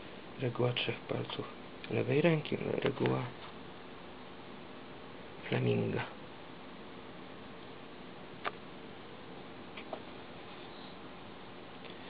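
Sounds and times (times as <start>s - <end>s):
room tone hiss: 0.0s - 12.0s.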